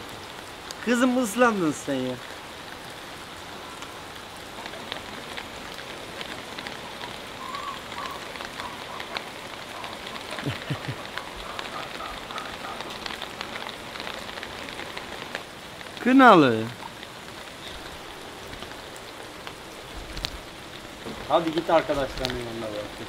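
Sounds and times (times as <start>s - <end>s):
rain pattering and dripping: 0.0s - 23.0s.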